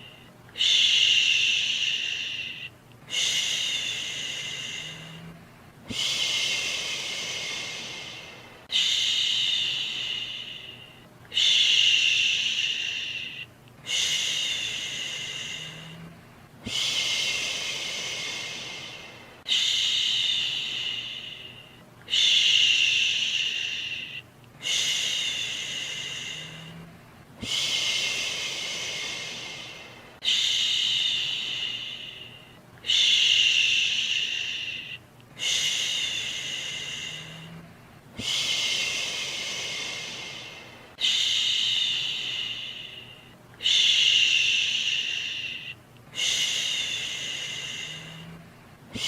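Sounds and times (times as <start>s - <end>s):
person shushing: 0.0s - 49.0s.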